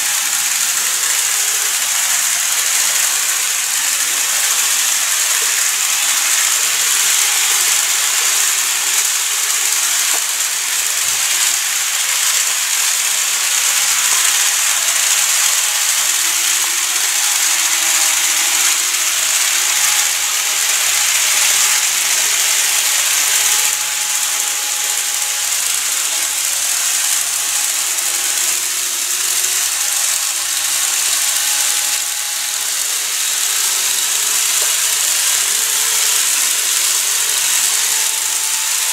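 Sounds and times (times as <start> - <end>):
faint motor whine: 0.0 - 38.9
model train wheels rattling on track: 0.0 - 38.9.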